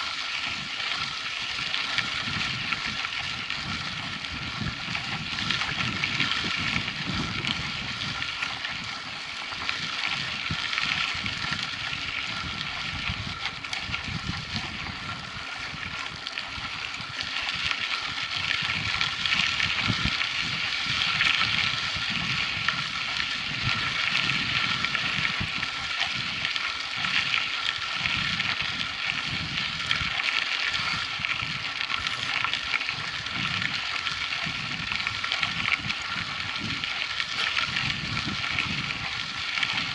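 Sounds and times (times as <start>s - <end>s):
bike rolling on dirt track: 0.0s - 39.9s
wind buffeting microphone: 0.0s - 39.9s.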